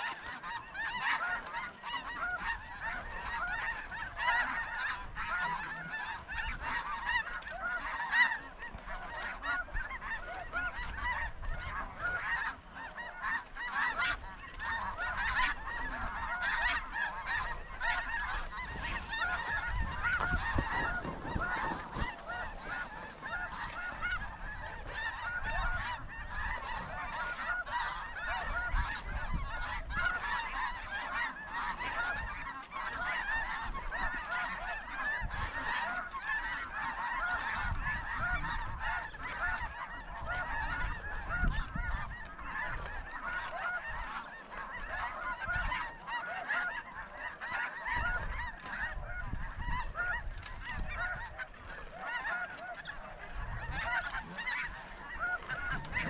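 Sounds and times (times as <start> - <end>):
flock of geese calling: 0.0 - 56.0.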